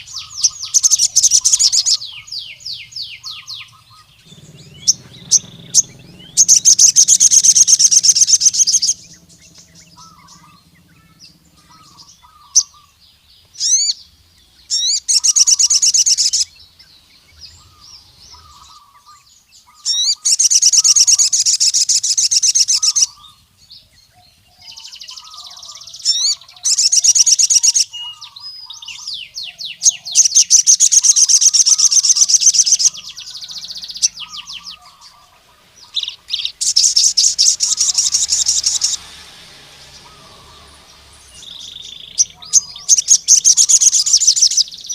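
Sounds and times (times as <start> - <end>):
bird trilling: 0.0 - 44.9.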